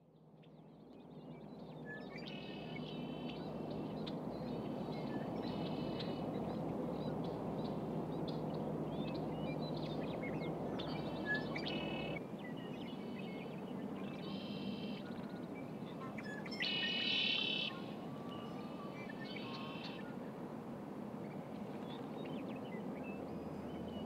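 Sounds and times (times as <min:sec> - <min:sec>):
blackbirds singing buzzy trills: 0:00.4 - 0:20.2.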